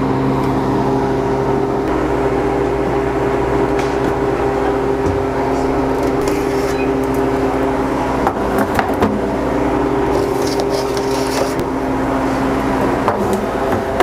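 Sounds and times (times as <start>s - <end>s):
freeze dryer machinery humming: 0.0s - 14.0s.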